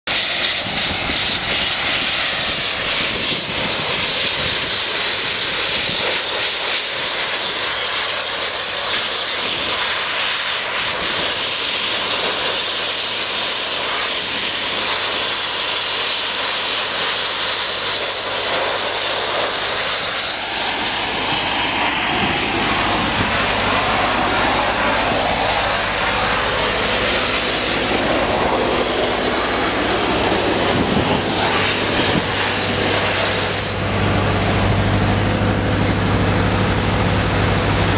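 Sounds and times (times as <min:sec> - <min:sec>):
air compressor engine hum: 0:00.1 - 0:37.9
sandblasting nozzle hissing: 0:00.1 - 0:37.9.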